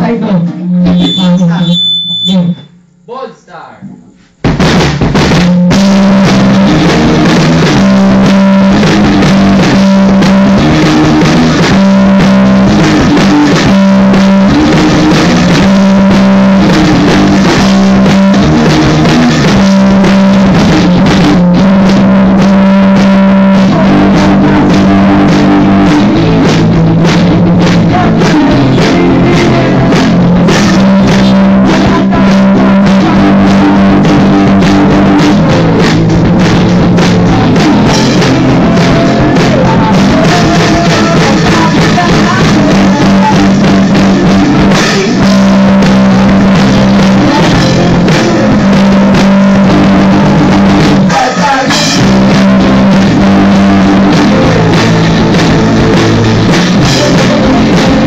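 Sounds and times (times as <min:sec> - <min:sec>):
electric guitar: 0:00.0 - 0:03.0, 0:03.9 - 0:58.0
drum kit: 0:00.0 - 0:58.0
person singing into microphone: 0:05.7 - 0:58.0.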